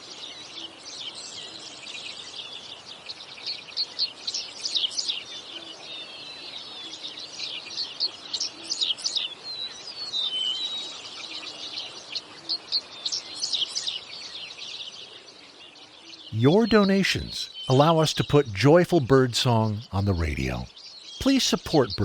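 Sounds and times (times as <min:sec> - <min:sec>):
songbirds singing in chorus: 0:00.1 - 0:18.0.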